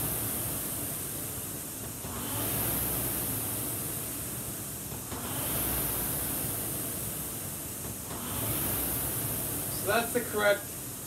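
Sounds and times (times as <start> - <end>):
rowing machine fan whirring: 0.0 - 11.0.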